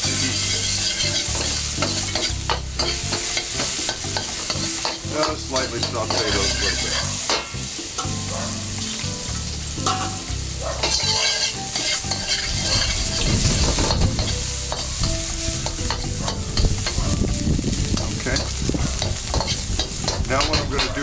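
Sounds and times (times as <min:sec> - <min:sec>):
food sizzling in oil: 0:00.0 - 0:21.0
clatter of stirring: 0:00.3 - 0:09.0, 0:09.8 - 0:21.0.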